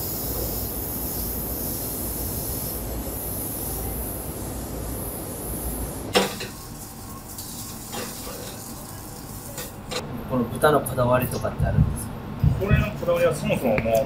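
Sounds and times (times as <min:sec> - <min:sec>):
restaurant kitchen sounds: 0:00.0 - 0:14.0
street noise: 0:00.0 - 0:14.0.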